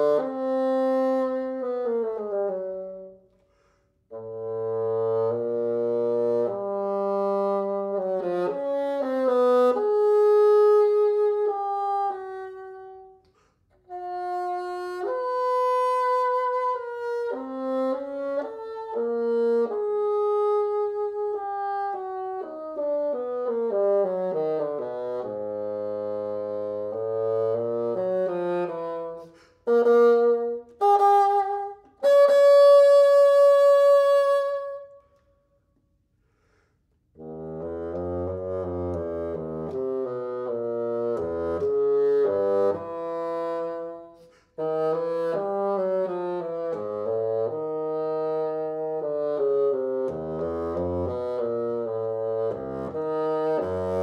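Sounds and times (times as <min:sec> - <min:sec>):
solo bassoon playing: 0:00.0 - 0:35.3, 0:37.0 - 0:54.0.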